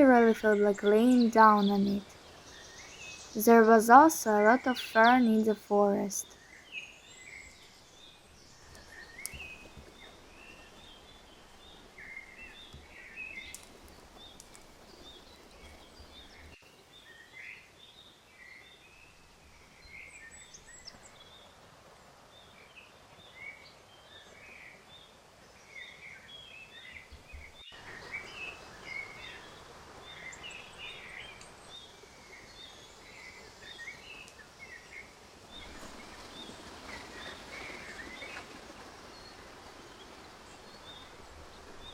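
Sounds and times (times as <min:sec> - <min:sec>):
small birds chirping: 0:00.0 - 0:17.6, 0:25.6 - 0:41.9
faint outdoor hiss: 0:00.0 - 0:41.9.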